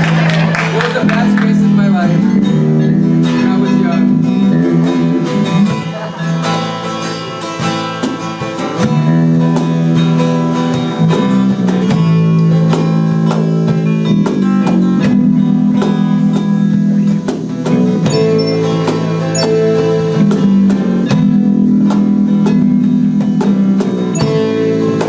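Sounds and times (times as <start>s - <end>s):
band playing live music: 0.0s - 25.0s
strummed guitar chords: 0.9s - 25.0s.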